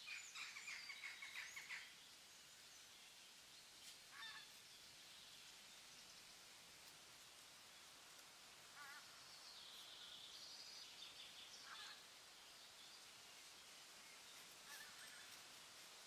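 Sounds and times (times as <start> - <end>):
faint outdoor ambience: 0.0 - 16.0.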